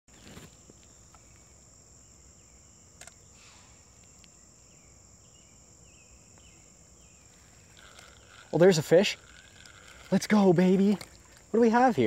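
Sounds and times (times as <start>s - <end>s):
insects droning: 0.1s - 12.0s.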